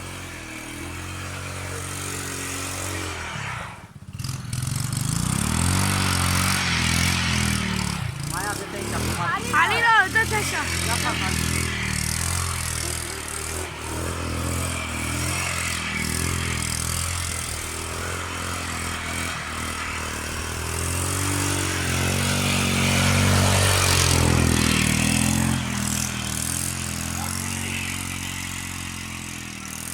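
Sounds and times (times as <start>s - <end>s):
atv engine revving: 0.0s - 29.9s.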